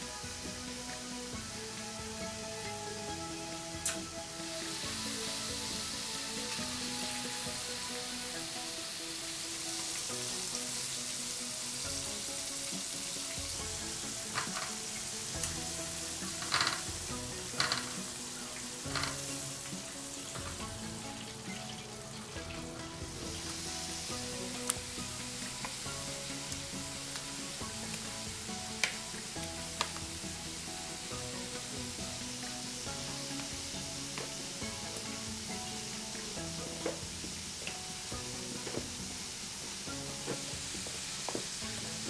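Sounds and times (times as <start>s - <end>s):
chicken deep-frying in oil: 0.1s - 42.0s.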